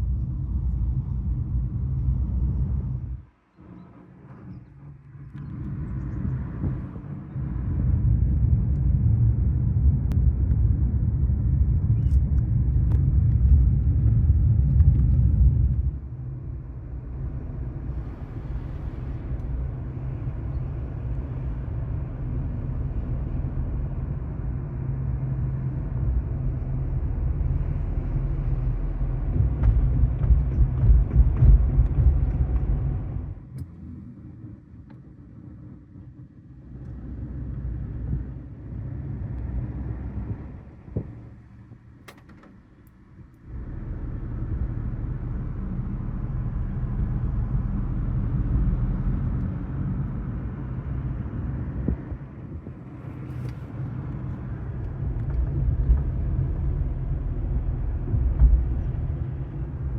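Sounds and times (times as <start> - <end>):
car rumbling in motion: 0.0 - 59.9
road and wind noise: 0.0 - 59.9.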